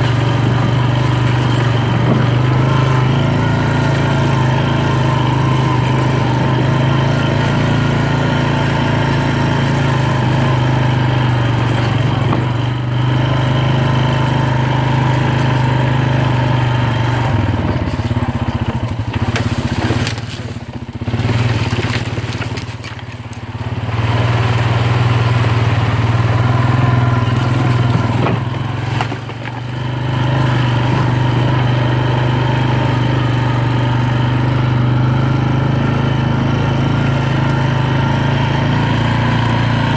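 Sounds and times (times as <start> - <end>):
atv engine running: 0.0 - 39.9
tyres crunching leaves and sticks: 0.0 - 39.9.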